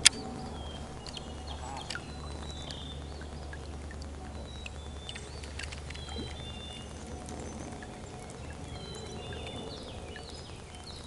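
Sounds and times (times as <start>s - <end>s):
birds whistling and chirping: 0.0s - 11.0s
faint clicks: 0.0s - 11.0s.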